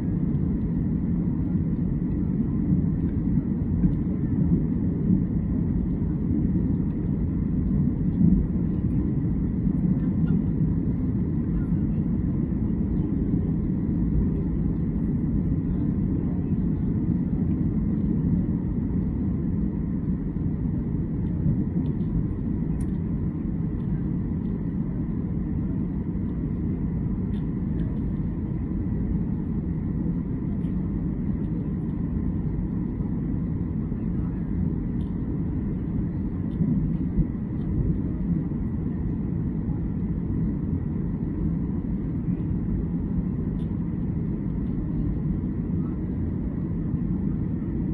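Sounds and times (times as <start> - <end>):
faint steady whine: 0.0 - 47.9
jet engines rumbling in cabin: 0.0 - 47.9.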